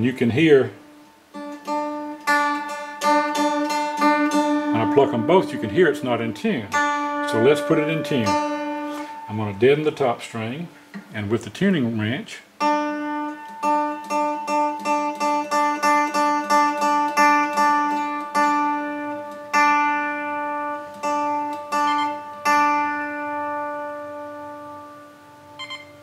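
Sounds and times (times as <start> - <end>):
dulcimer string plucked: 0.0 - 11.1, 12.6 - 26.0.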